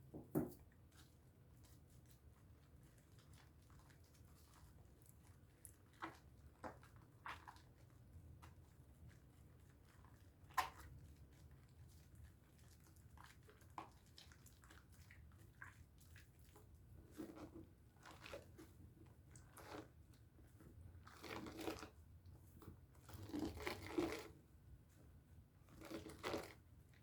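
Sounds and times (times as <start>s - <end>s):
hands lathering soap squishing: 0.7s - 27.0s.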